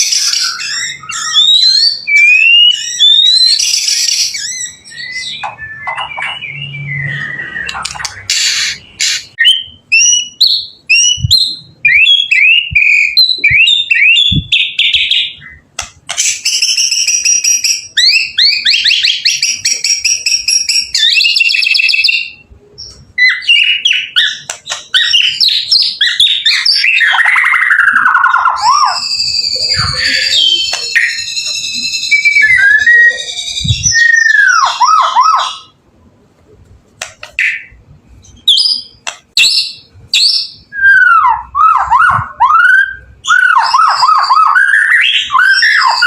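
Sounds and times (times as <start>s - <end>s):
bird singing: 0.0s - 35.8s, 37.4s - 46.0s.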